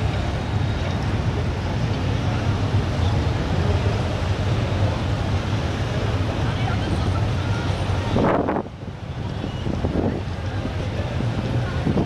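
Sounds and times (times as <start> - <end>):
faint crowd chatter: 0.0 - 12.0
motorcycle engines rumbling: 0.0 - 12.0.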